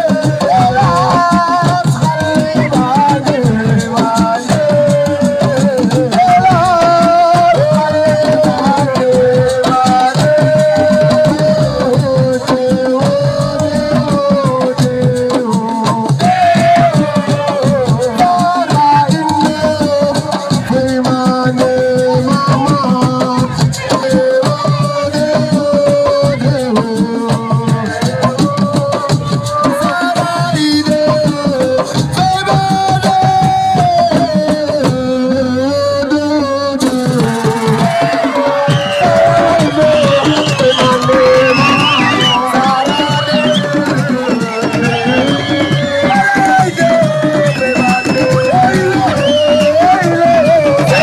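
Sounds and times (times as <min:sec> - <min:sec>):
hand-drum and rattle percussion: 0:00.0 - 0:51.0.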